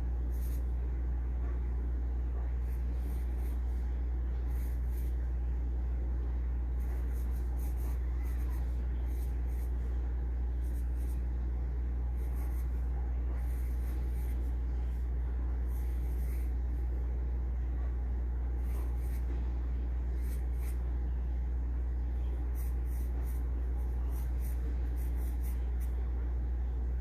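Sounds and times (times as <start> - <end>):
pencil scratching on paper: 0.0 - 26.2
steady low hum: 0.0 - 27.0.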